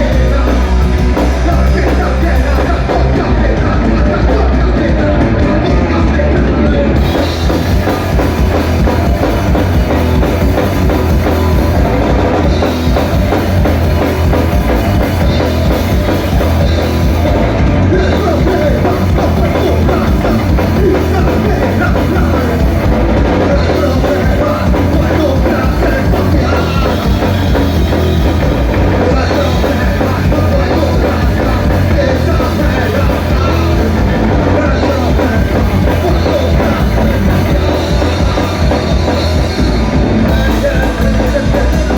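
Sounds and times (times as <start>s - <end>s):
drum kit: 0.0s - 41.9s
rock band playing loud: 0.0s - 41.9s.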